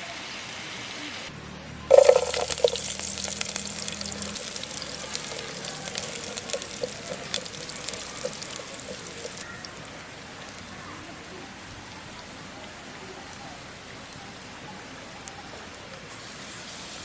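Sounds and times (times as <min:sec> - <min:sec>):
heavy rain patter: 0:01.9 - 0:16.0.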